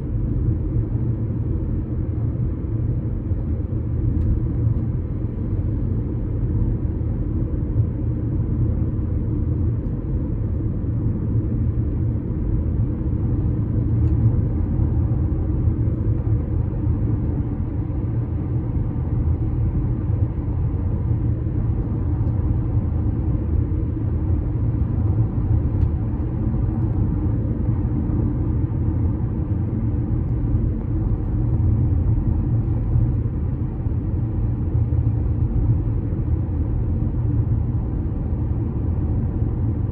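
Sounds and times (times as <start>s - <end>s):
low rumble from bridge: 0.0s - 39.9s.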